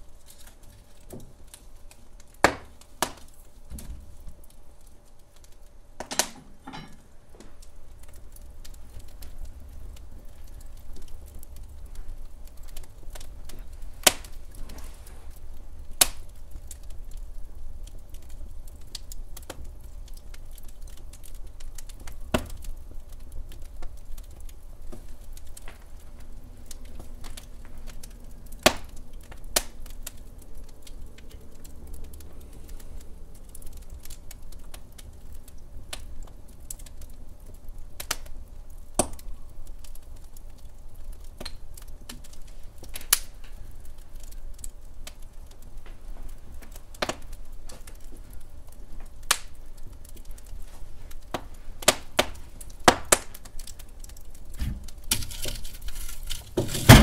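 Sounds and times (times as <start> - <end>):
low rumble of burning logs: 0.0 - 57.0
wood fire crackling: 0.0 - 57.0.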